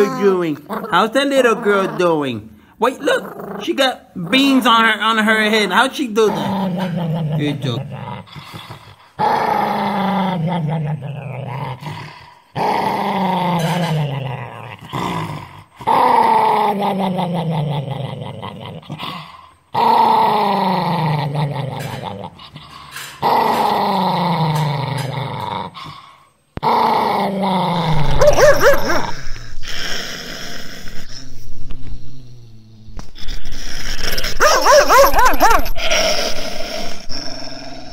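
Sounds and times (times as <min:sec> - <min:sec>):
dog growling: 0:00.0 - 0:05.5, 0:06.1 - 0:37.9.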